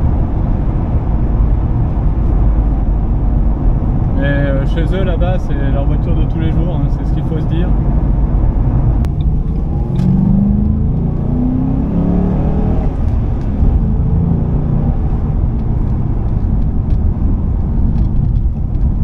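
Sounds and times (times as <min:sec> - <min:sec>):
car engine rumbling and accelerating: 0:00.0 - 0:19.0.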